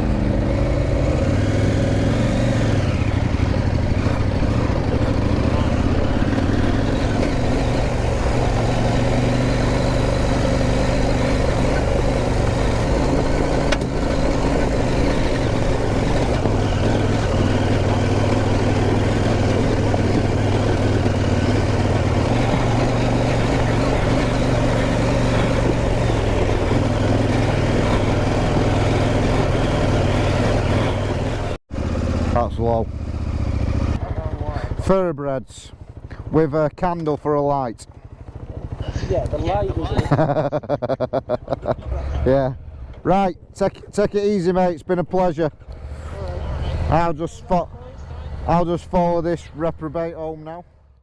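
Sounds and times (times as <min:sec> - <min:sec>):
motorcycle engine revving: 0:00.0 - 0:40.5, 0:41.2 - 0:51.0.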